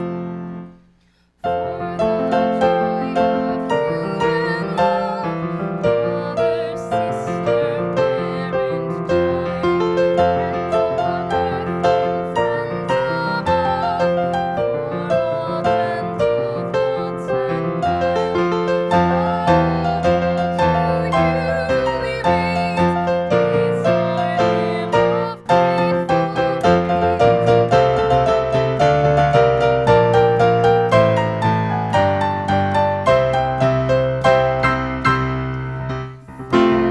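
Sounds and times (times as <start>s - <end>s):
solo piano piece: 0.0s - 36.9s.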